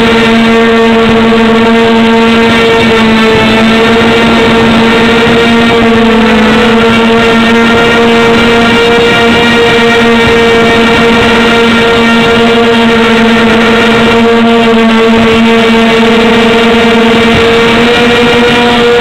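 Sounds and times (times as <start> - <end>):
quadcopter motors buzzing whine: 0.0 - 19.0.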